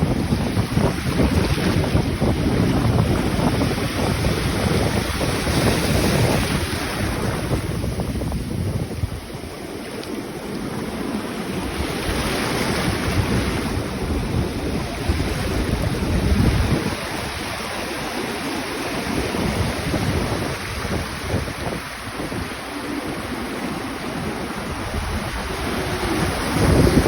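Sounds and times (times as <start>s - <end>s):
sea waves breaking: 0.0s - 27.0s
wind buffeting microphone: 0.0s - 27.0s.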